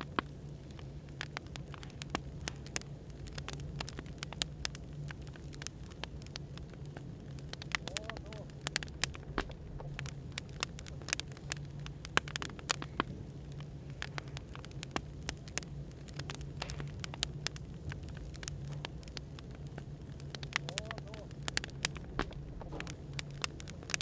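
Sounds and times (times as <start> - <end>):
low hum of white noise: 0.0 - 24.0
wood fire crackling and popping: 0.0 - 24.0.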